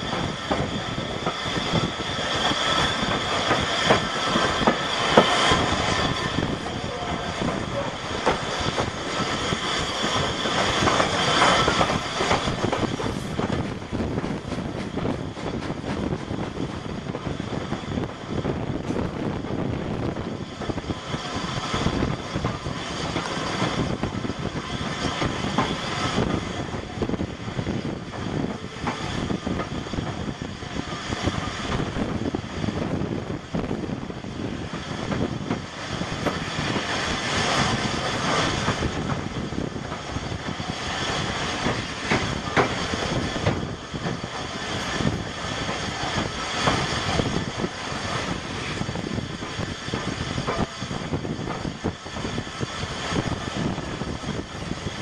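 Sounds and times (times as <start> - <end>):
train wheels clattering on rails: 0.0 - 55.0
wind noise: 0.0 - 55.0.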